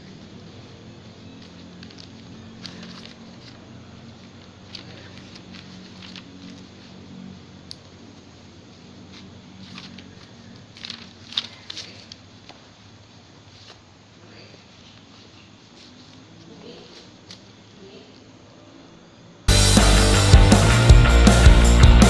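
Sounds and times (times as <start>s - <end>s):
faint clicks and rustles: 0.2s - 18.3s.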